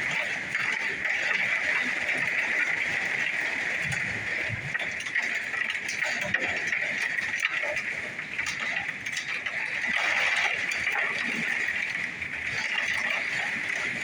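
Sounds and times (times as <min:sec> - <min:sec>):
hail striking metal and glass: 0:00.0 - 0:14.0.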